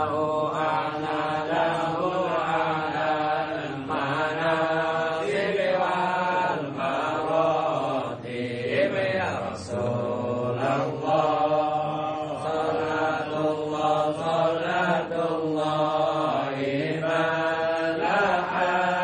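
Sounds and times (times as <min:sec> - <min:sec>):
men chanting in unison: 0:00.0 - 0:19.0.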